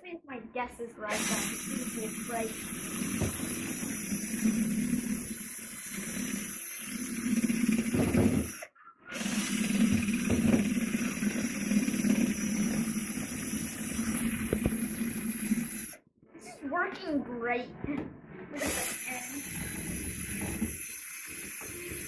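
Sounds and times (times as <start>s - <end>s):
electric drill churning pulp: 1.1s - 16.0s, 18.6s - 22.0s.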